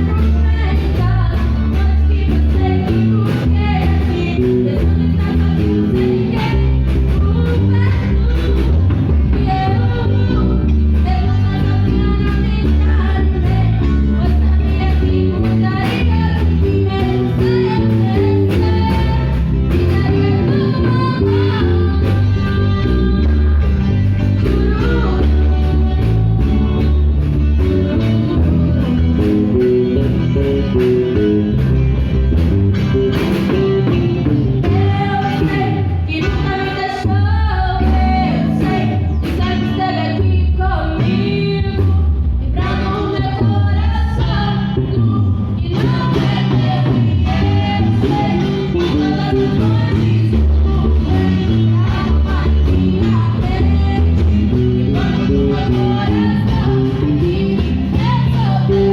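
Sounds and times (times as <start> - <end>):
voices singing: 0.0 - 31.2, 33.4 - 58.9
band playing gospel music: 0.0 - 58.9.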